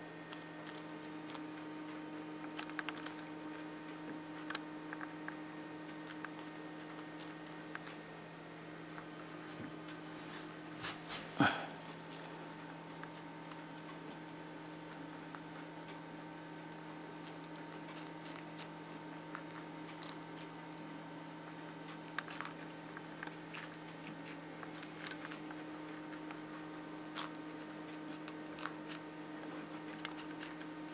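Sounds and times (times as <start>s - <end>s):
low electrical hum: 0.0s - 30.9s
rabbit chewing carrot crunches: 0.0s - 30.9s.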